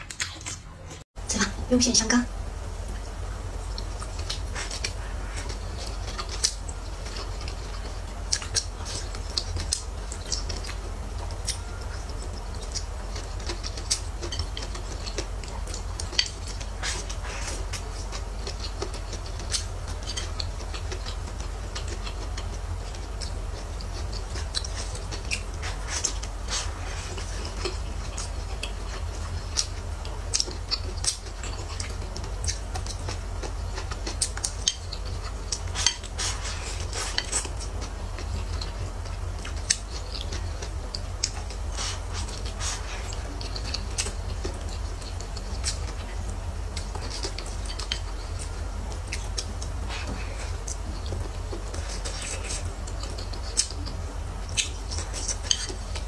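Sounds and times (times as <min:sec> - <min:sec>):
steady low hum: 0:00.0 - 0:56.0
wet chewing: 0:02.8 - 0:56.0.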